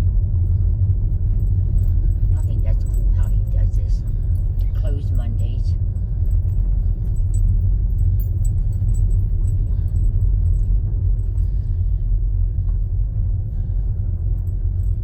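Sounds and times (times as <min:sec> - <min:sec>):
road and engine rumble: 0:00.0 - 0:15.0
loose things rattling in car: 0:00.2 - 0:15.0.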